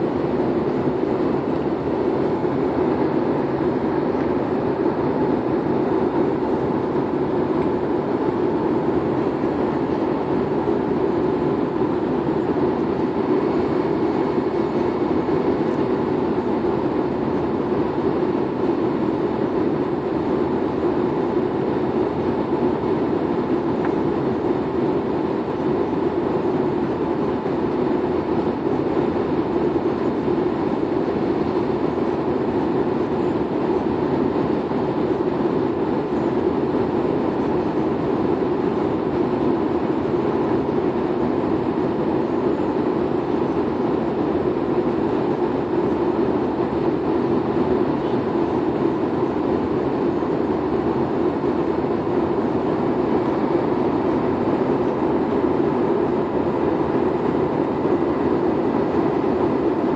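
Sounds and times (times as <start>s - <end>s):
faint steady hum: 0.0s - 59.9s
jet engines and rushing airflow: 0.0s - 59.9s.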